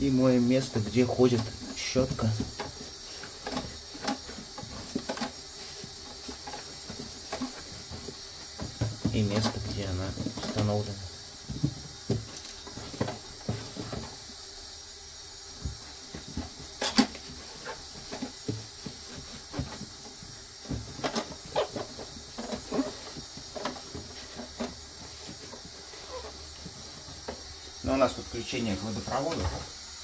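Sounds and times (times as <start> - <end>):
damp cloth wiping plastic: 0.1 - 14.3, 15.5 - 29.8.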